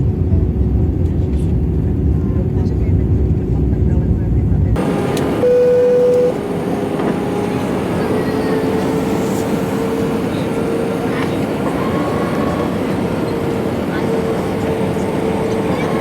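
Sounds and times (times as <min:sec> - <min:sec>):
airplane cabin engine rush: 0:00.0 - 0:16.0.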